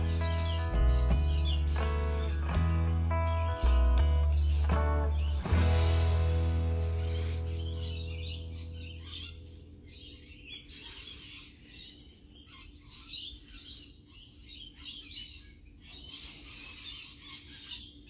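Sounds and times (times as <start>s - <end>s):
birds chirping and singing: 0.0s - 18.0s.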